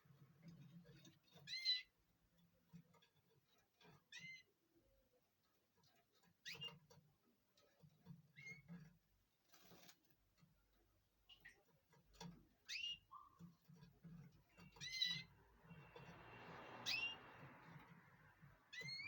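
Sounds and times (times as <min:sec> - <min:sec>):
canaries chirping: 0:00.0 - 0:19.0.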